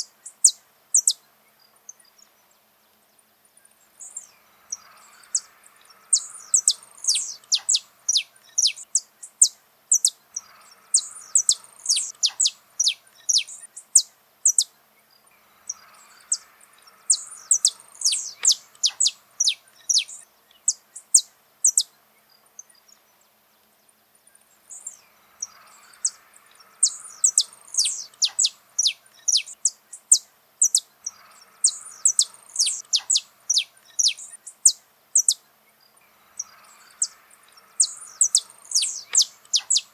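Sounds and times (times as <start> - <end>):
finch singing: 0.0 - 1.2, 3.9 - 23.2, 24.3 - 39.9
faint insect hum: 0.0 - 39.9.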